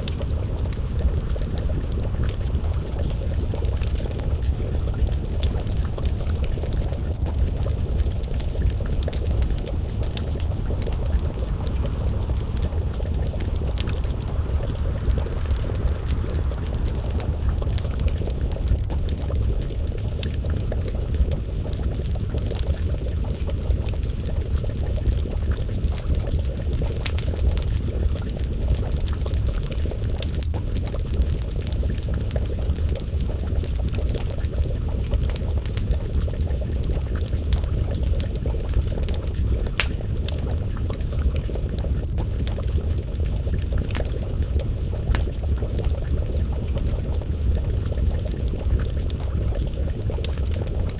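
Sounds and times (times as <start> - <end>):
stew bubbling in pot: 0.0 - 50.9
wood fire crackling and popping: 0.0 - 50.9.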